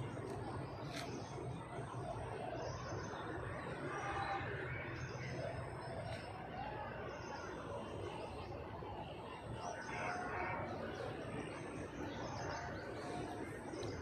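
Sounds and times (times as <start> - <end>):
distant voices: 0.0 - 14.0.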